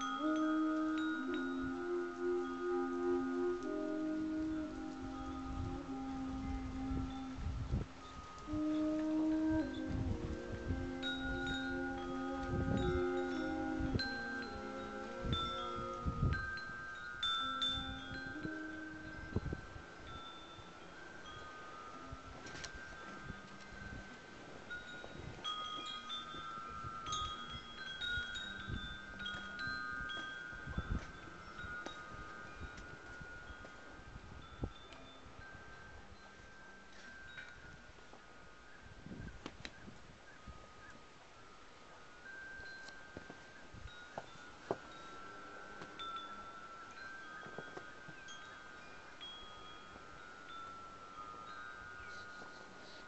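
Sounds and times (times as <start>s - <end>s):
chimes ringing: 0.0s - 39.2s, 40.4s - 53.0s.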